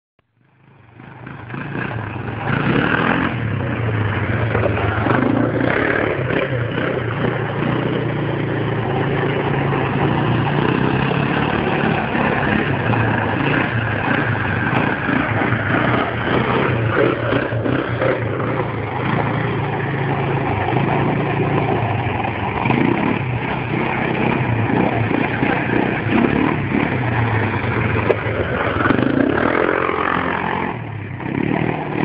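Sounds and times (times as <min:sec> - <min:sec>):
quad engine revving: 0:00.6 - 0:32.0.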